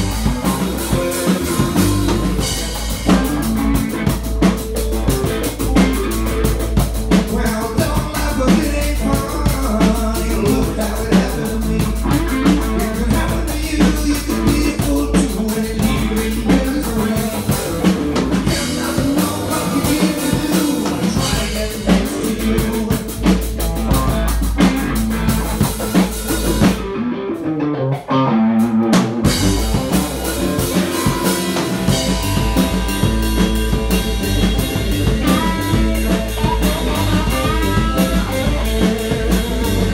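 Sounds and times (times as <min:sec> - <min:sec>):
blues band playing live: 0:00.0 - 0:39.9.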